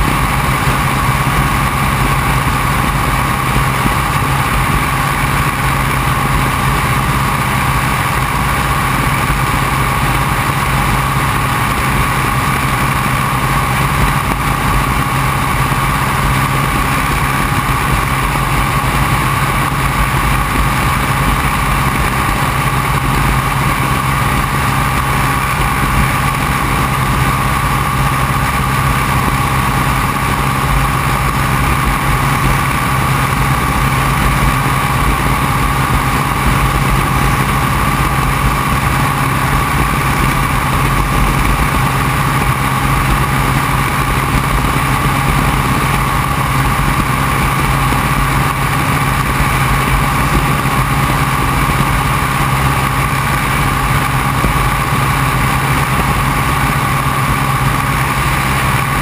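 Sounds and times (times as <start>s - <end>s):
airstream rushing: 0.0s - 59.0s
plane engine running: 0.0s - 59.0s.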